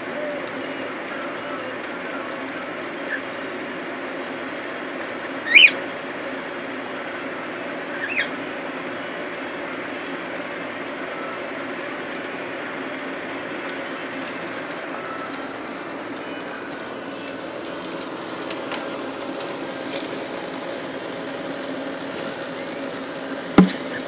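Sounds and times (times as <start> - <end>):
mechanical whirring hum: 0.0 - 24.0.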